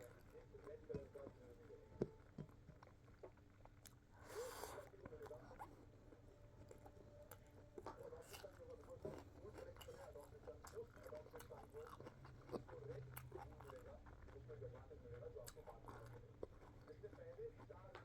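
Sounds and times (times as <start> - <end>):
chewing: 0.0 - 5.8, 6.6 - 18.0.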